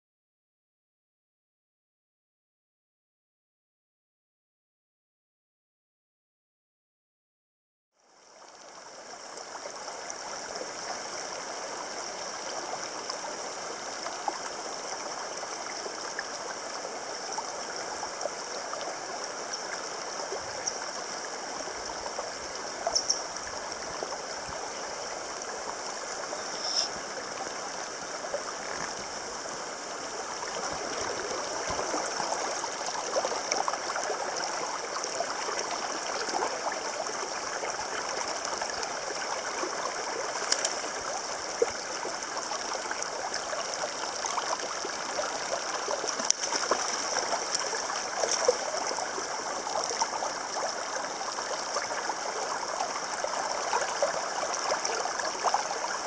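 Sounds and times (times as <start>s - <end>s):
stream rushing over stones: 8.8s - 56.0s.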